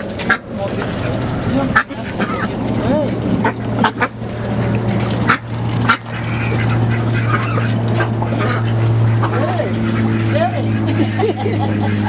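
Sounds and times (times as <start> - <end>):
ducks quacking: 0.0 - 12.0
low hum: 0.0 - 12.0.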